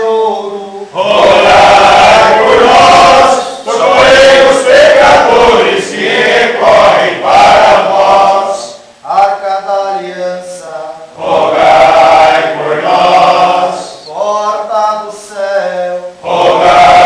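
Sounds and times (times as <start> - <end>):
congregation singing in unison: 0.0 - 17.0.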